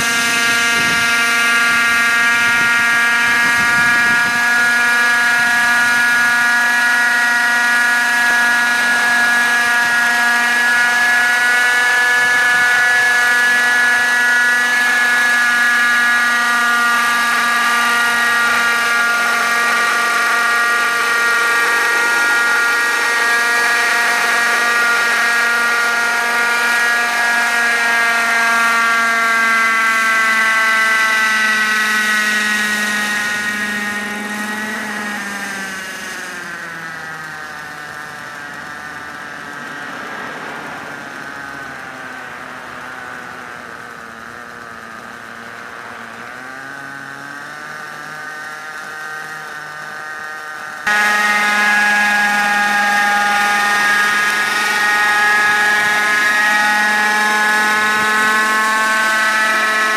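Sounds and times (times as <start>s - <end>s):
model helicopter motor whine: 0.0s - 59.9s.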